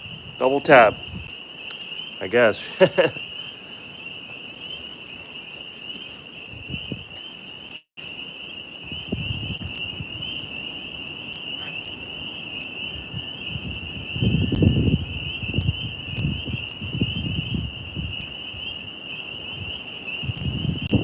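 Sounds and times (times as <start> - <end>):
crickets chirping: 0.0 - 21.0
wind rumbling on microphone: 0.0 - 21.0.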